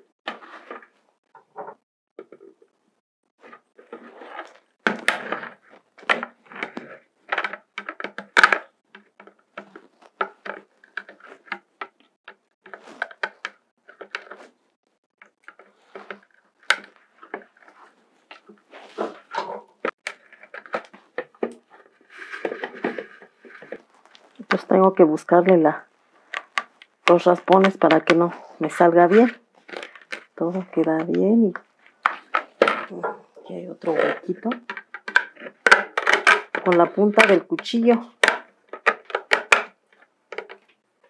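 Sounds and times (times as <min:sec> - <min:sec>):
knife scraping plastic: 0:00.3 - 0:02.6, 0:03.4 - 0:40.8.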